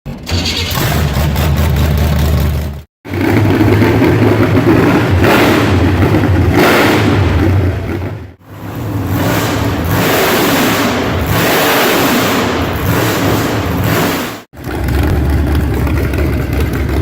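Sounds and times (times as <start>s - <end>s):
car engine running and revving: 0.8s - 17.0s.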